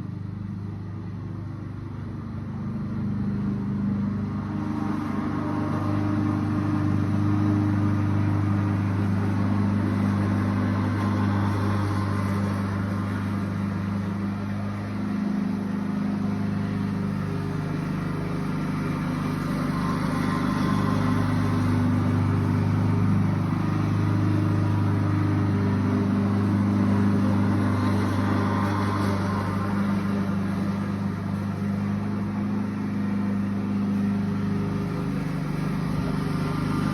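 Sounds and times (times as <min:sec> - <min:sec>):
lawnmower engine running: 0:00.0 - 0:36.9.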